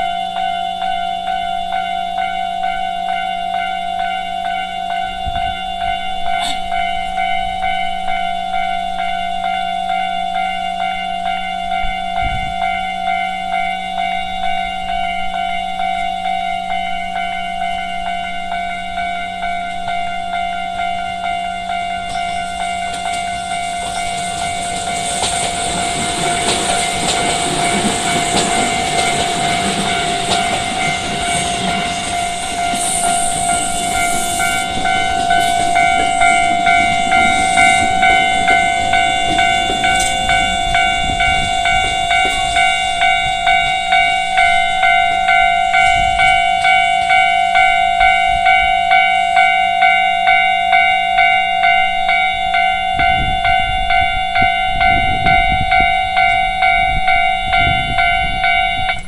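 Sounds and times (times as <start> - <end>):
level-crossing warning bell: 0.0 - 59.0
train passing with wheel clatter: 0.0 - 59.0.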